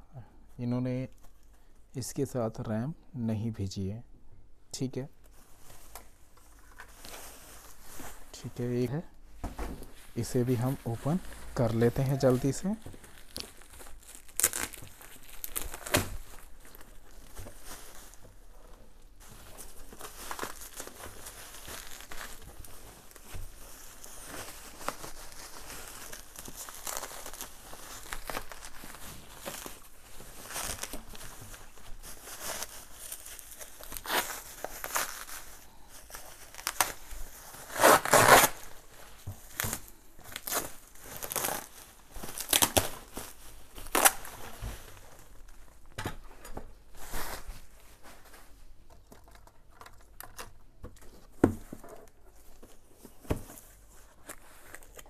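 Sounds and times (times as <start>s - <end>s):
bubble wrap crinkling and tearing: 5.3s - 55.0s.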